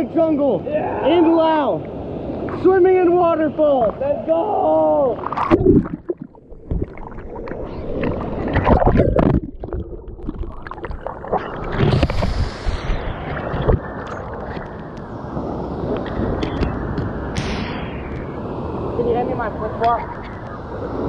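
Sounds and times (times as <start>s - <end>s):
rushing water: 0.0s - 21.0s
water splashing and sloshing: 3.6s - 21.0s.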